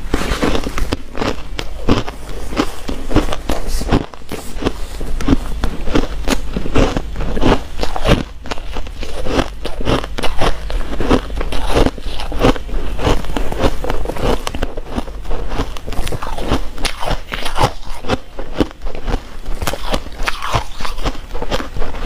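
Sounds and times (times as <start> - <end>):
chewing crushed ice crunches: 0.0 - 22.0.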